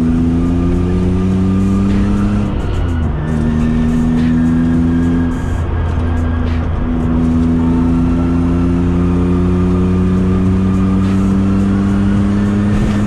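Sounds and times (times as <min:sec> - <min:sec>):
gear change: 0:00.0 - 0:13.0
road and tyre noise: 0:00.0 - 0:13.0.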